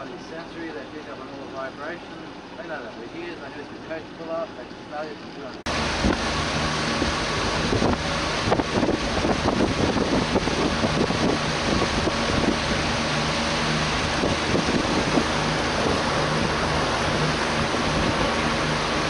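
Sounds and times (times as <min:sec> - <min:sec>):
boat motor running: 0:00.0 - 0:19.0
water rushing along hull: 0:00.0 - 0:19.0.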